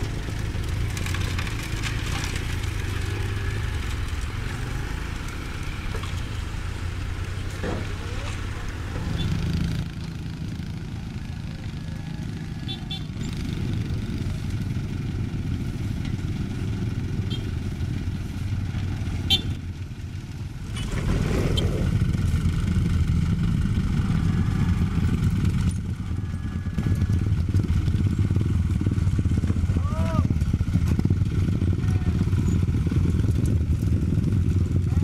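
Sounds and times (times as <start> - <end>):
diesel engines running: 0.0 - 35.0.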